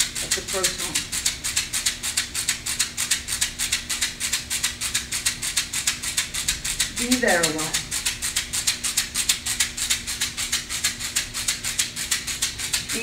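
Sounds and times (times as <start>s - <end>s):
hand rattle shaken: 0.0s - 13.0s.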